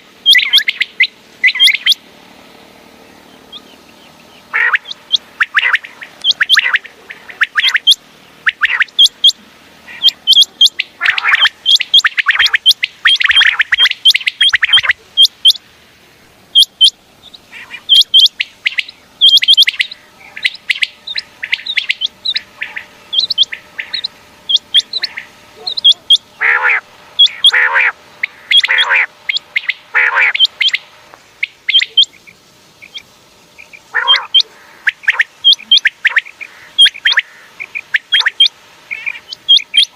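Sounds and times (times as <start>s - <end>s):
lower harsh bird calls: 0.0s - 39.9s
quail chirping: 0.2s - 2.0s, 3.2s - 15.7s, 16.5s - 39.9s.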